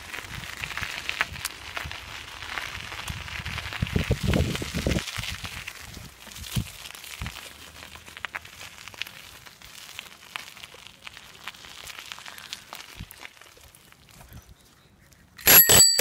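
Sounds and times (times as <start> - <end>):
faint clicks and crackles: 0.0 - 4.4, 5.0 - 14.4.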